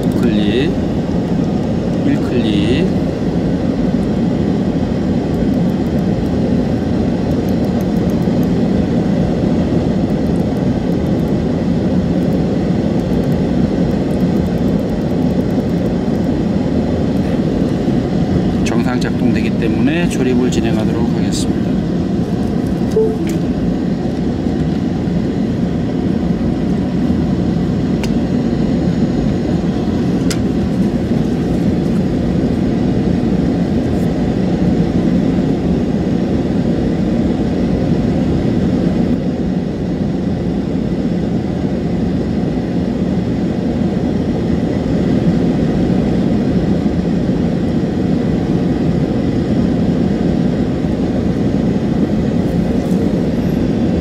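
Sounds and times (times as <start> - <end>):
low machine drone: 0.0 - 54.0.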